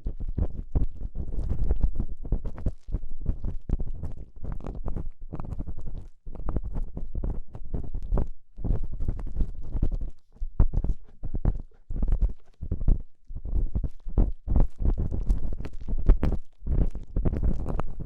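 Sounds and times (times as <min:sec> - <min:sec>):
ear-cleaning tool scraping microphone: 0:02.5 - 0:18.0.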